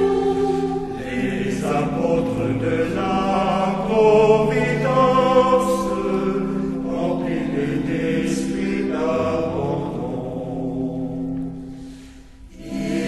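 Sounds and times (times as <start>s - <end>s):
choir singing a slow chant: 0.0s - 13.0s.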